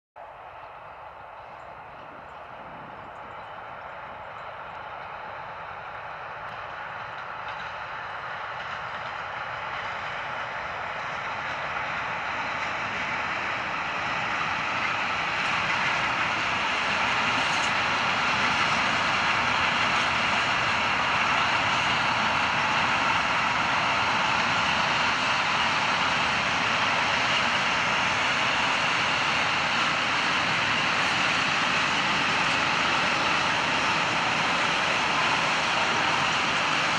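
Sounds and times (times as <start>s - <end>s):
freight train wheels on rails: 0.2s - 36.9s.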